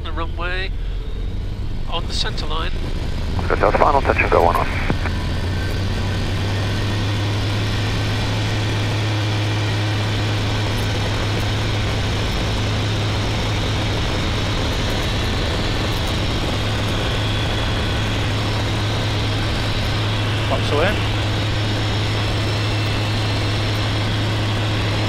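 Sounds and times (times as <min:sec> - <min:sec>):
aircraft engine and propeller: 0:00.0 - 0:25.0.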